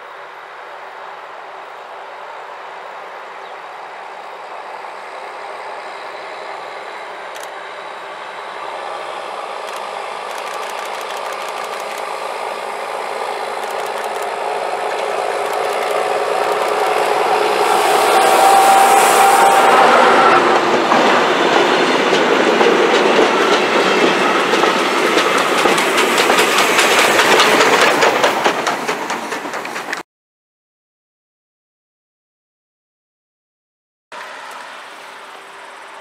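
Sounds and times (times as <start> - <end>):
diesel locomotive approaching: 0.0 - 30.0, 34.2 - 36.0.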